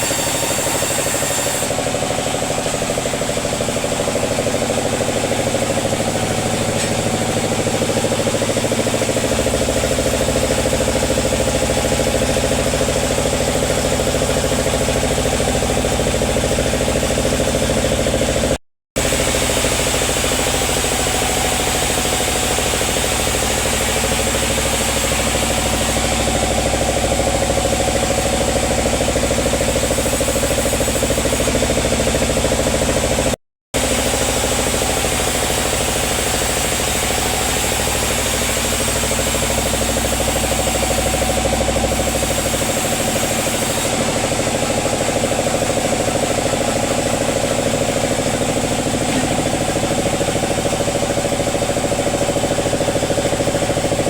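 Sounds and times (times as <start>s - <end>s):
sawmill machinery drone: 0.0s - 54.0s.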